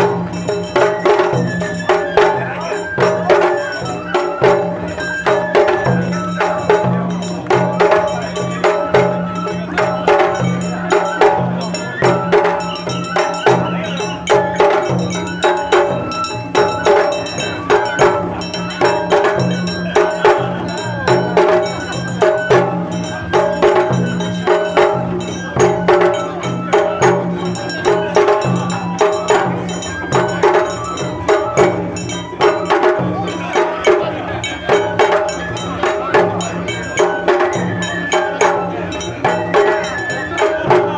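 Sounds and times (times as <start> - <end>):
drums: 0.0 - 40.9
held melody line: 0.0 - 40.9.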